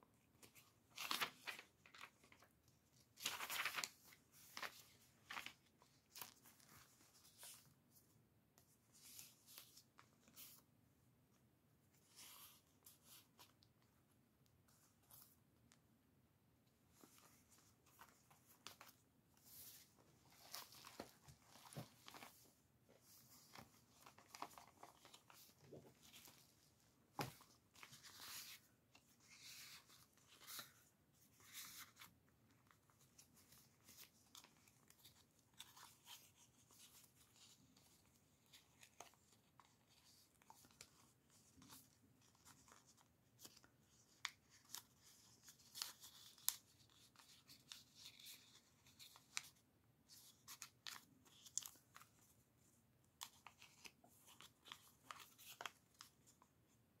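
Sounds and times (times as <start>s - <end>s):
paper rustling and crinkling: 0.2s - 8.0s, 16.9s - 52.4s, 53.2s - 56.8s.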